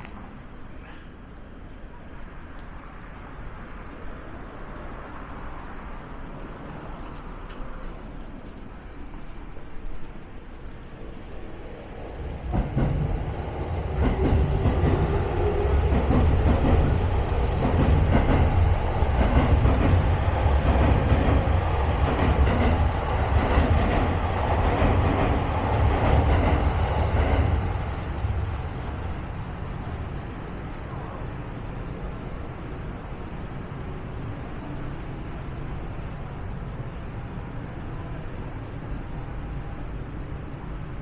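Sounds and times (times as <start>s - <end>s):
train wheels rumbling on rails: 4.4s - 41.0s.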